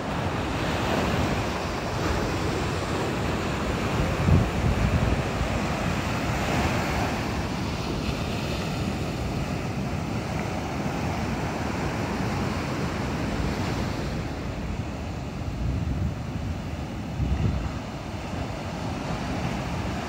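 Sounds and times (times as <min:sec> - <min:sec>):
ocean surf breaking: 0:00.0 - 0:20.0
wind rumbling on microphone: 0:00.0 - 0:20.0.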